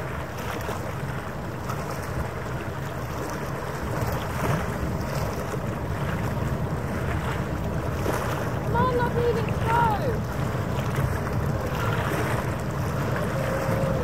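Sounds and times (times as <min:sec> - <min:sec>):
sea washing: 0:00.0 - 0:14.0
wind buffeting microphone: 0:00.0 - 0:14.0.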